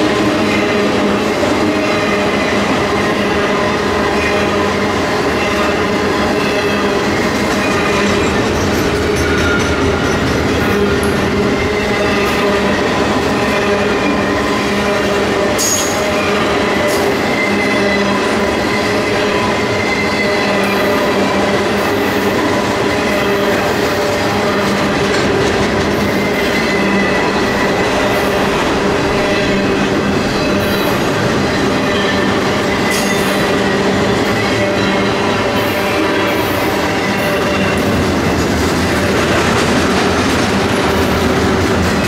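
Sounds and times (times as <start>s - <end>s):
train wheels rolling on rail: 0.0s - 42.0s.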